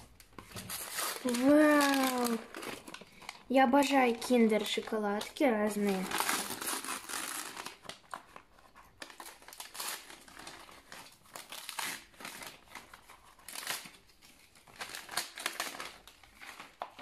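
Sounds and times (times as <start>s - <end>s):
wrapping paper crinkling and tearing: 0.0s - 17.0s.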